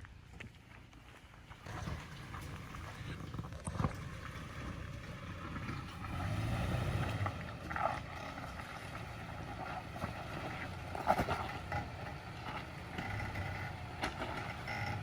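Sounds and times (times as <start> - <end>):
pickup engine running: 1.3 - 15.0.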